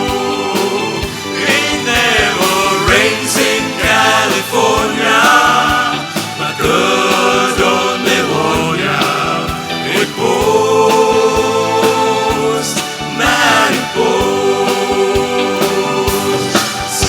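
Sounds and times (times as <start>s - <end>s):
band with steady drum beat: 0.0s - 17.0s
choir singing held chords: 0.0s - 17.0s.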